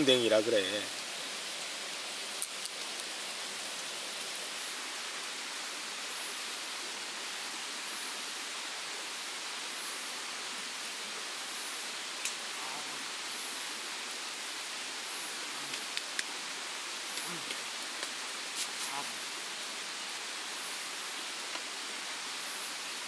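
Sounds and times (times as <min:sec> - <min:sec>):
high-pitched insect call: 0:00.0 - 0:23.0
night insect chorus hiss: 0:00.0 - 0:23.0.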